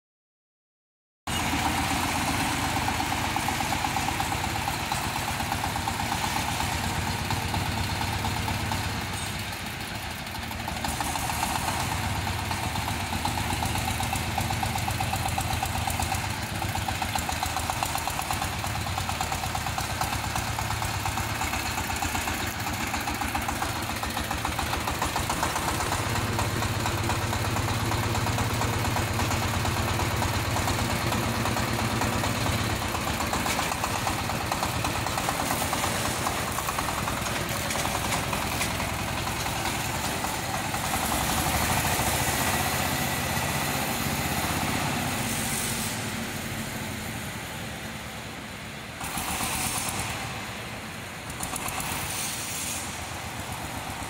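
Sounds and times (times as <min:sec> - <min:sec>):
diesel tractor engine running: 0:01.3 - 0:54.0.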